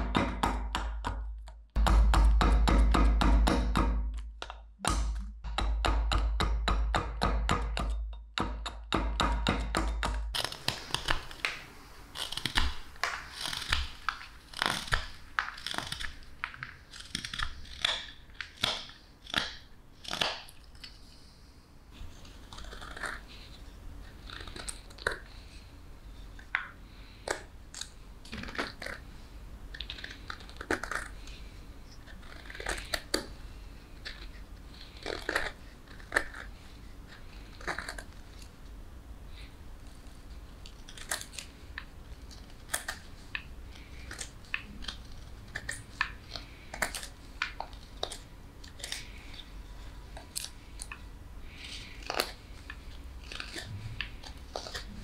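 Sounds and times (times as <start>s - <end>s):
knife carving wood: 0.0s - 20.9s, 22.0s - 25.5s, 26.4s - 29.1s, 29.7s - 38.6s, 39.8s - 55.0s.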